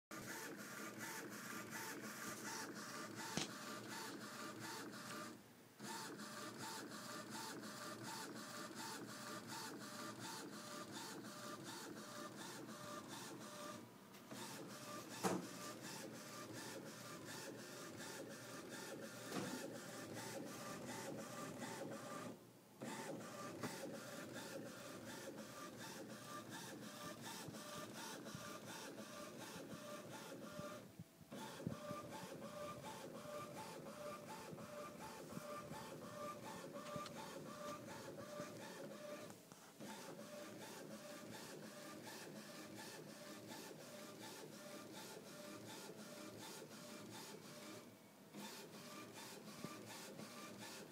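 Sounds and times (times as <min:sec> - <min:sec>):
printer carriage whirring and ticking: 0:00.1 - 0:50.9.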